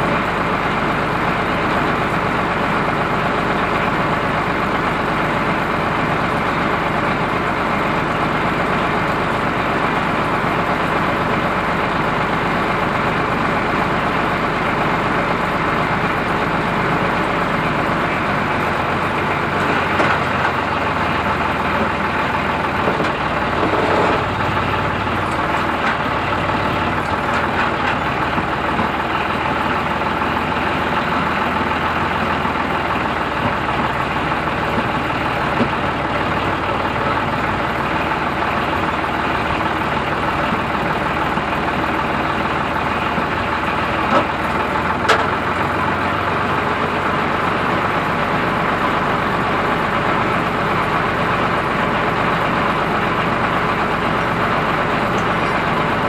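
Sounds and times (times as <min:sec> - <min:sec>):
tractor engine running: 0:00.0 - 0:56.0
winch hauling cable: 0:00.0 - 0:56.0.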